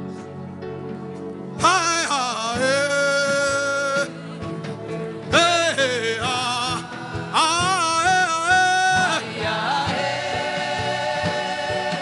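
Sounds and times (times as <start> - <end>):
gospel music with steady beat: 0.0 - 12.0.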